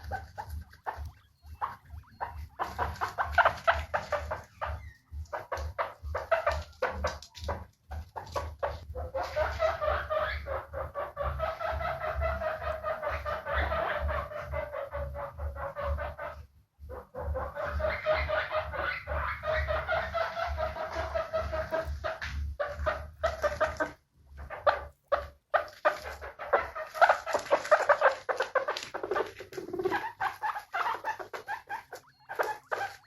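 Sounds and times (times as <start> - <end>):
guinea pigs squeaking: 0.0 - 33.0.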